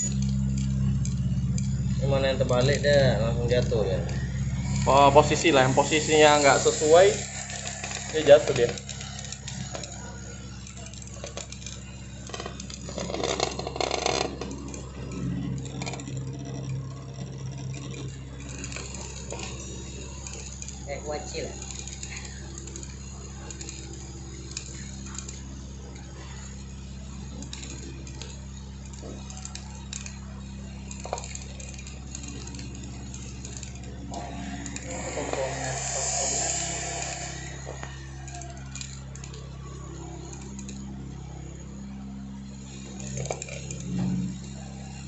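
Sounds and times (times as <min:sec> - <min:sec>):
bowl feeder electric hum: 0:00.0 - 0:45.0
capacitors rattling and ticking: 0:00.0 - 0:45.0.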